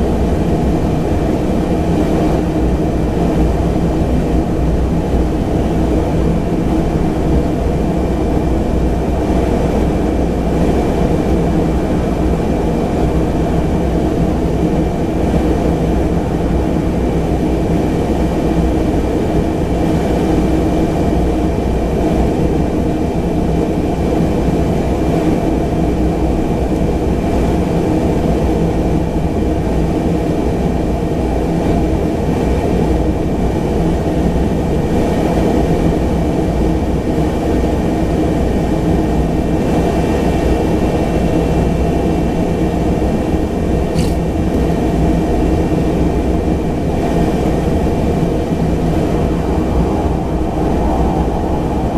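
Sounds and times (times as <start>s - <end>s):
turboprop engine drone: 0.0s - 51.9s.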